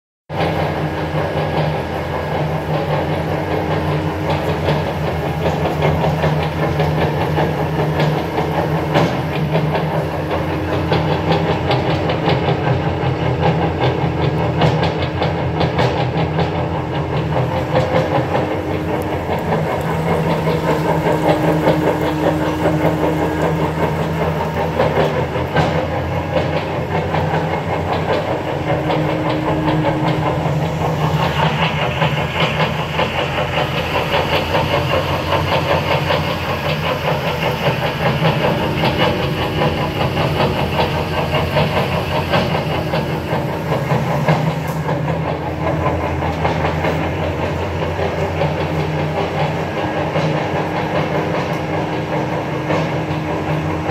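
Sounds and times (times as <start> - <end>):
meat grinder motor humming: 0.4 - 53.9.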